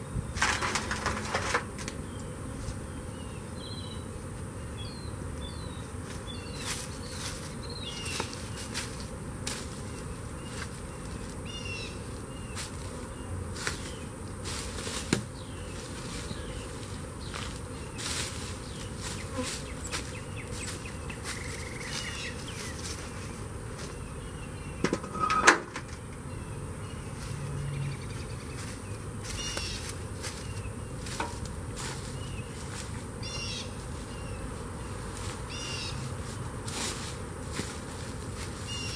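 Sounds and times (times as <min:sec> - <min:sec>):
honeybees buzzing: 0:00.0 - 0:38.9
small birds chirping: 0:01.8 - 0:25.0, 0:26.0 - 0:38.9.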